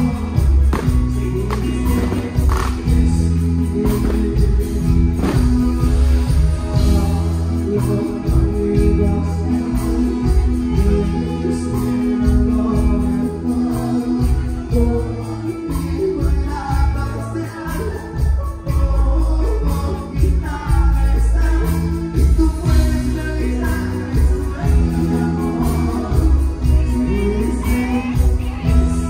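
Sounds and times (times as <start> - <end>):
band music with strong bass: 0.0 - 29.0
person singing: 0.0 - 29.0.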